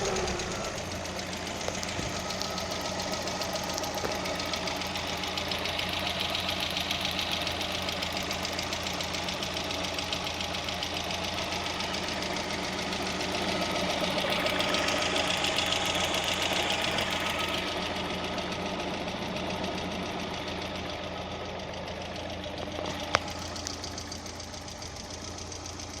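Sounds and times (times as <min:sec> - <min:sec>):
car engine running: 0:00.0 - 0:26.0
rapid ticking of valve lifters: 0:00.0 - 0:26.0.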